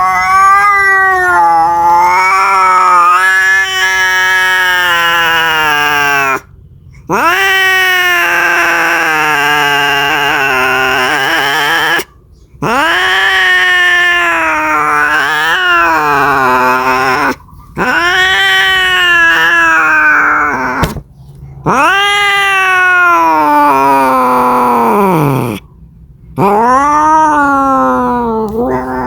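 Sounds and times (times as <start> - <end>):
cat yowling: 0.0 - 6.5, 7.1 - 21.0, 21.6 - 25.7, 26.4 - 29.0.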